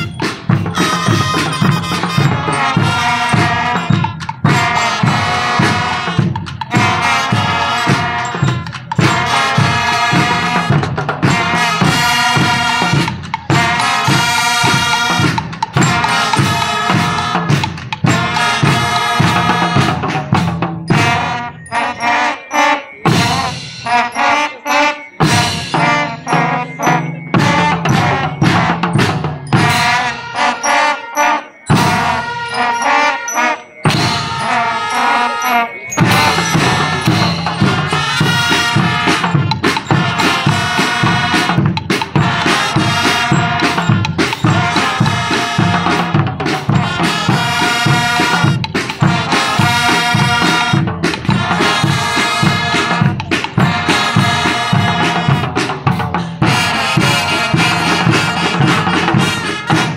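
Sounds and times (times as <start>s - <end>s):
marching band brass and drums: 0.0s - 59.9s.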